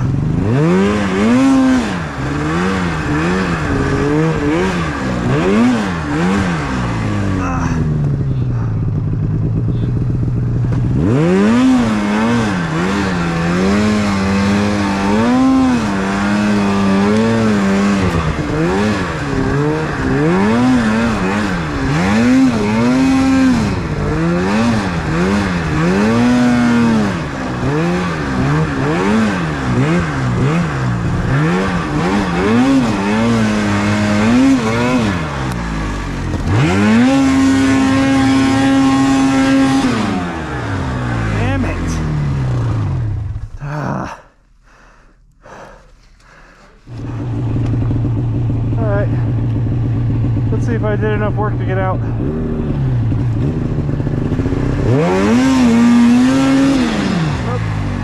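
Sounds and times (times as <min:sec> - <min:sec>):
snowmobile engine revving: 0:00.0 - 0:44.1, 0:45.4 - 0:58.0.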